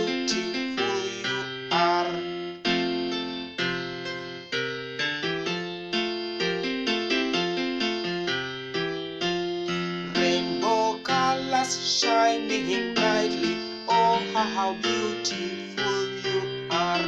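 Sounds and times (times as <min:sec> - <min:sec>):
piano keyboard playing a tune: 0:00.0 - 0:17.0.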